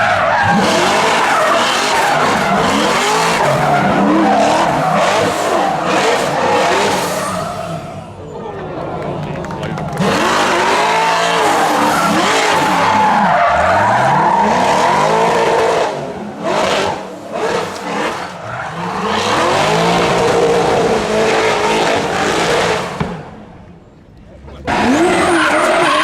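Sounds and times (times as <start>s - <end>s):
car engine revving hard: 0.0s - 8.0s, 9.8s - 23.3s, 24.6s - 26.0s.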